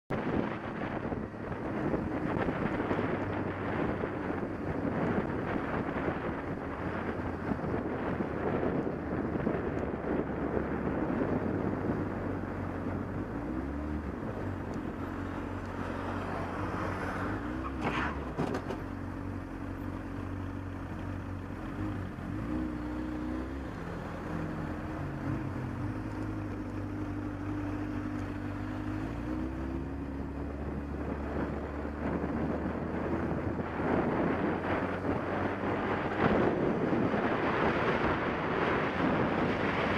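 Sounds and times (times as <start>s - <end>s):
wind noise on microphone: 0.1s - 39.9s.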